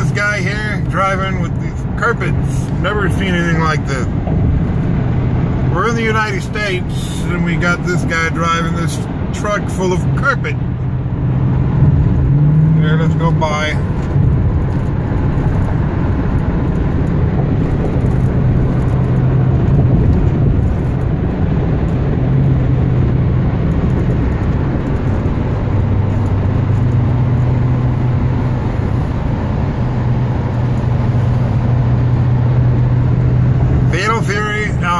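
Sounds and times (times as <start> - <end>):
car engine and tyre noise: 0.0 - 34.9.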